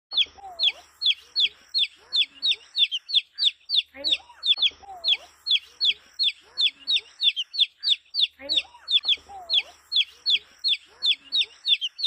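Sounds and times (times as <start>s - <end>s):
chick peeping: 0.1s - 12.0s.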